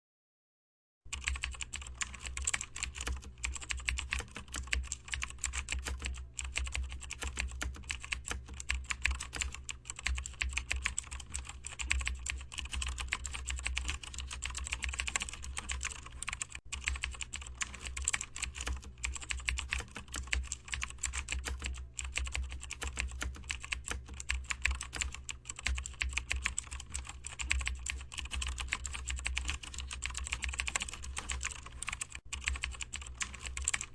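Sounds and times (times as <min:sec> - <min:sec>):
fast keyboard typing: 0:01.1 - 0:33.9.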